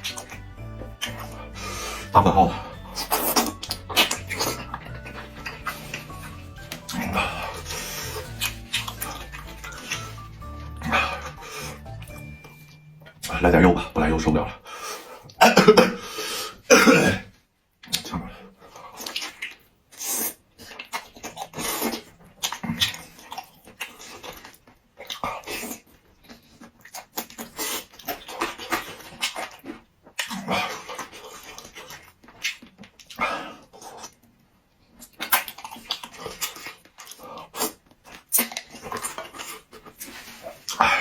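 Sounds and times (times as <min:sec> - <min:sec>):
person slurping and chewing: 0:00.0 - 0:14.0, 0:17.8 - 0:34.3, 0:34.9 - 0:41.0.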